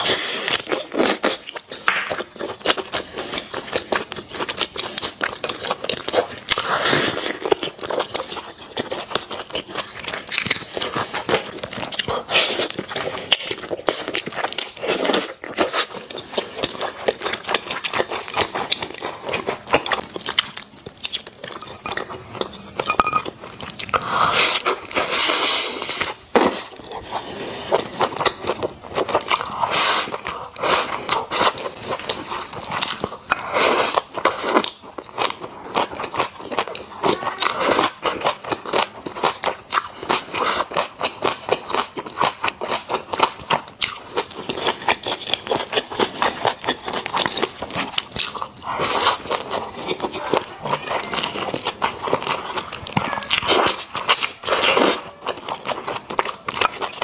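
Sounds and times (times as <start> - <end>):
person chewing wetly: 0.0 - 57.0.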